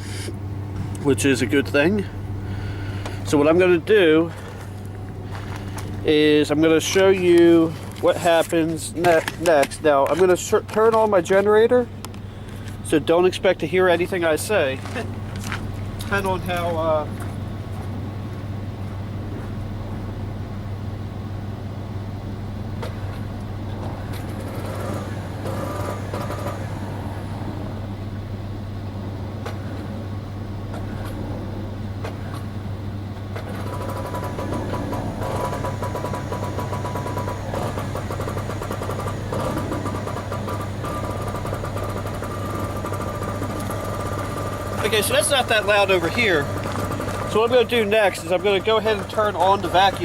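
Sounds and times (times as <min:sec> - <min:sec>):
generator engine running: 0:00.0 - 0:50.0.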